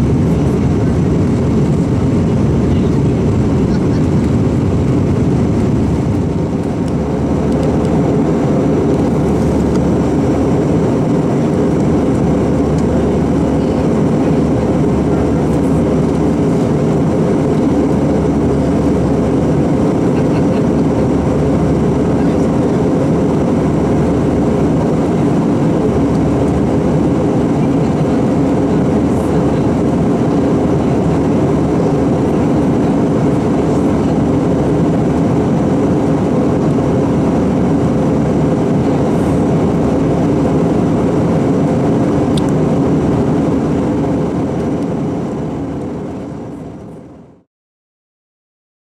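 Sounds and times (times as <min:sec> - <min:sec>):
airplane cabin drone: 0:00.0 - 0:47.5
low hum: 0:00.0 - 0:47.5.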